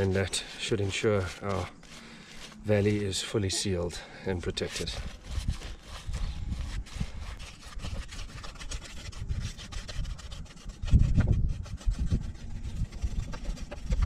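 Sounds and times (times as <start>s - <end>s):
paintbrush scrubbing rough tiles: 0.0s - 14.0s.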